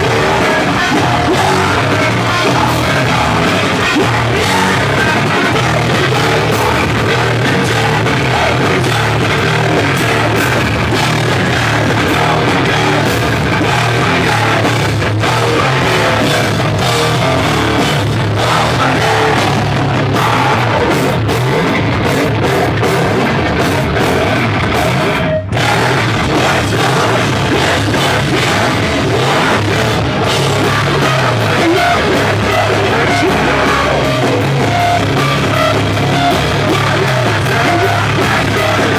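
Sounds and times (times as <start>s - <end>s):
metal band playing live: 0.0s - 38.9s.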